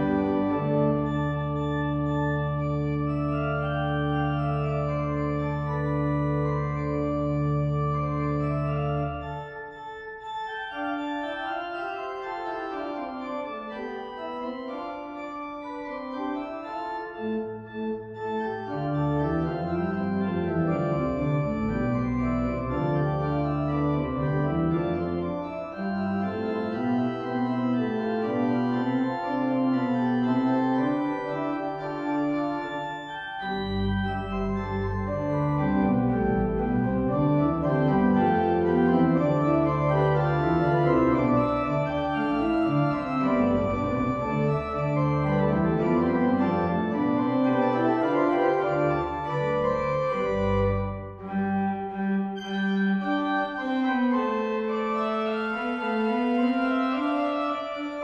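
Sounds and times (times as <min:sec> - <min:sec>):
deep organ pedal bass: 0:00.0 - 0:11.6, 0:14.2 - 0:58.0
pipe organ playing: 0:00.0 - 0:58.0.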